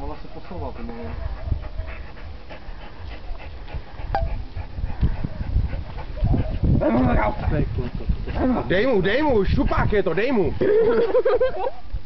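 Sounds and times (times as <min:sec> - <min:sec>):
dog panting through nose: 0:00.0 - 0:10.6.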